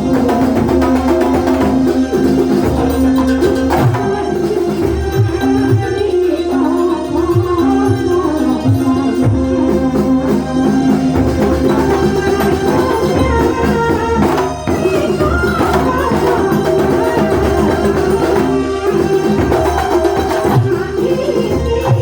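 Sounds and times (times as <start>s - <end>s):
percussion ensemble with frame drums: 0.0s - 22.0s.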